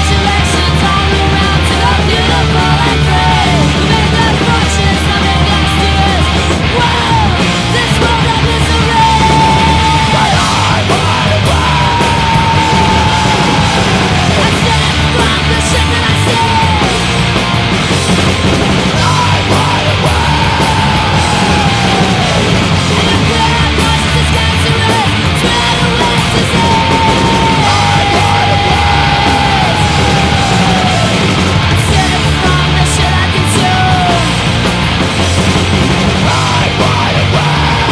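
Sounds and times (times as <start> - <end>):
shouted vocals: 0.0 - 34.8, 35.4 - 37.9
melodic lead guitar line: 0.0 - 37.9
punk band playing: 0.0 - 37.9.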